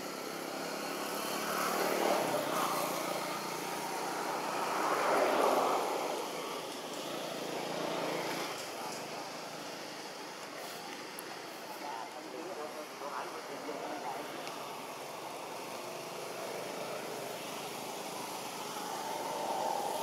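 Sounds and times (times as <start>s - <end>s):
distant engine noise: 0.0s - 20.0s.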